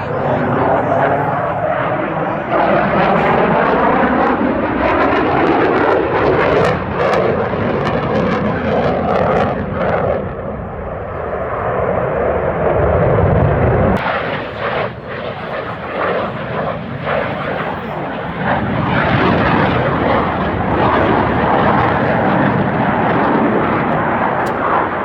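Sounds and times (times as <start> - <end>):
airplane engine flying by: 0.0 - 25.0.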